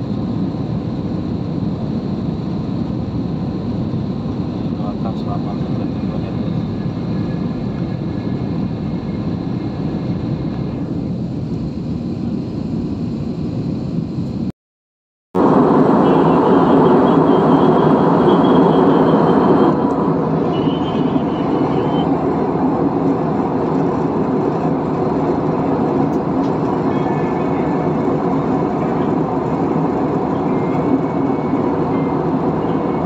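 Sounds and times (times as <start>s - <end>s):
jet airliner cabin noise: 0.0s - 14.5s, 15.4s - 33.0s.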